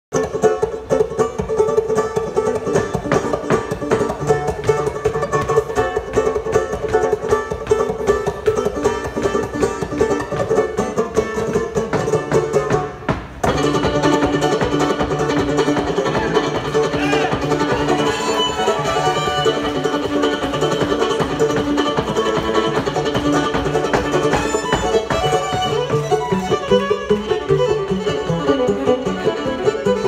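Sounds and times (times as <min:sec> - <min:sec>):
banjo playing: 0:00.1 - 0:30.0
fiddle playing: 0:00.2 - 0:30.0.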